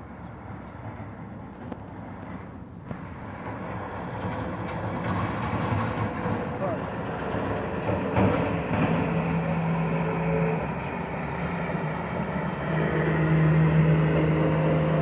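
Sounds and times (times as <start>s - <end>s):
truck engine droning: 2.3s - 15.0s.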